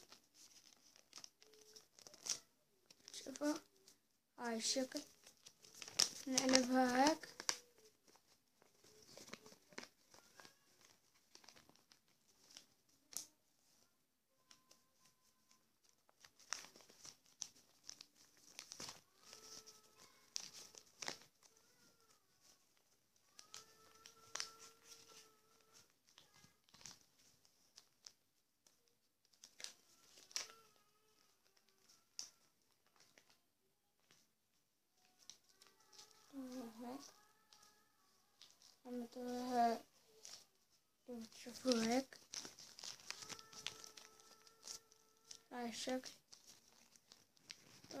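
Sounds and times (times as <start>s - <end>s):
paper rustling and crinkling: 0.0s - 34.4s, 35.0s - 48.0s.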